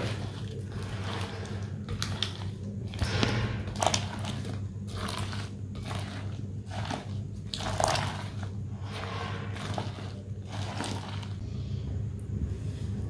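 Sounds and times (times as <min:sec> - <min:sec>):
spatula stirring in glass bowl: 0:00.0 - 0:11.4
steady low hum: 0:00.0 - 0:13.0.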